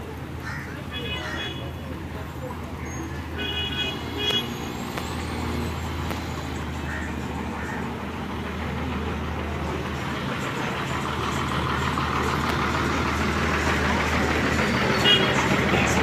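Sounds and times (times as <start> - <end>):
diesel bus engine idling: 0.0 - 16.0
people's voices: 0.0 - 16.0
street noise: 0.0 - 16.0.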